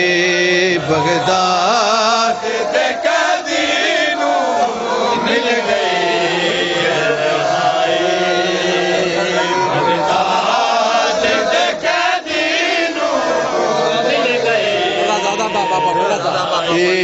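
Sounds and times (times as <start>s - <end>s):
man chanting a lament: 0.0s - 11.8s, 13.2s - 17.0s.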